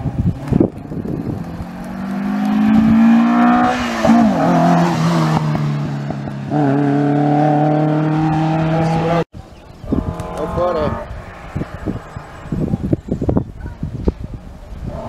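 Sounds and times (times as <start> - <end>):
rally car engine passing: 0.0 - 9.2, 9.9 - 13.3.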